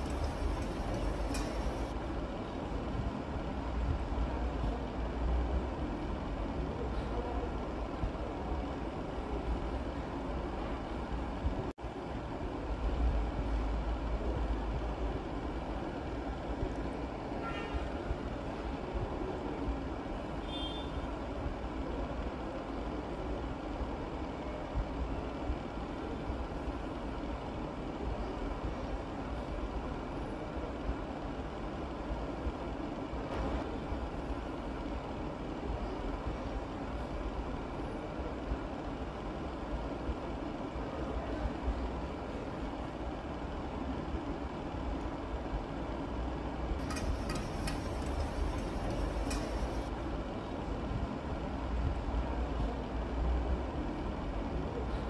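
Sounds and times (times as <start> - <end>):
low rumble and hiss: 0.0 - 55.0.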